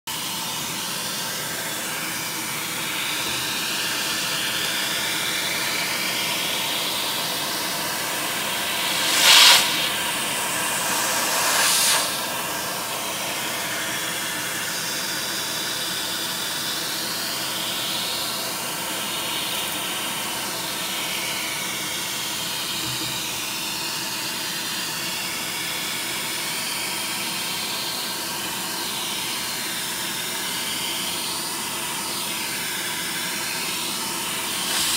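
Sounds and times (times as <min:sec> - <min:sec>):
vacuum cleaner running: 0:00.1 - 0:34.9.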